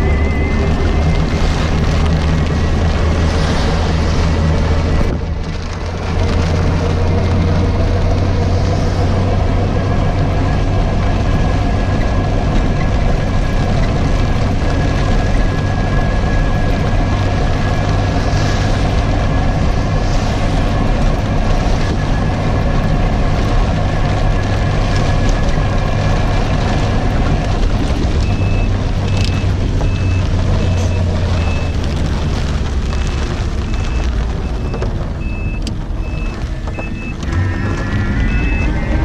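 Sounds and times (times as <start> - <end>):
vehicle rumble with low hum: 0.0 - 39.0.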